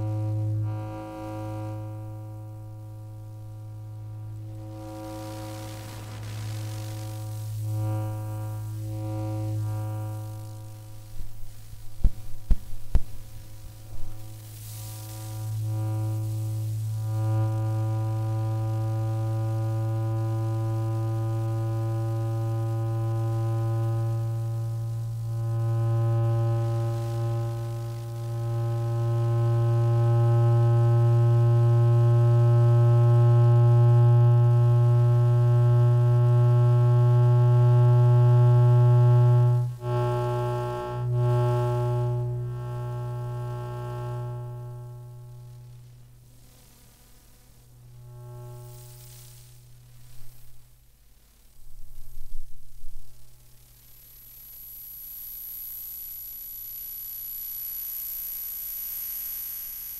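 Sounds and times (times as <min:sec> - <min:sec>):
steady electric buzz: 0:00.0 - 0:59.9.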